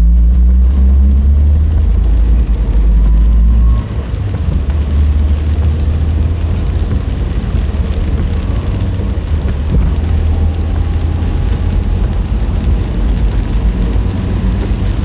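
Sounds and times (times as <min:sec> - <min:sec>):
car road rumble: 0:00.0 - 0:15.0
rain hissing: 0:00.1 - 0:15.0.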